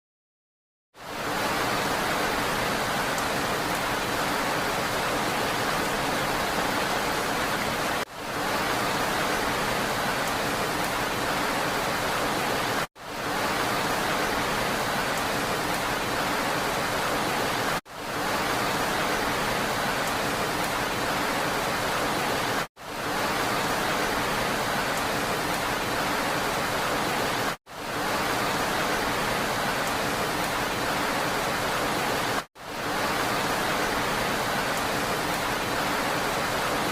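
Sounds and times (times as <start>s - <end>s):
rain falling: 1.0s - 36.9s.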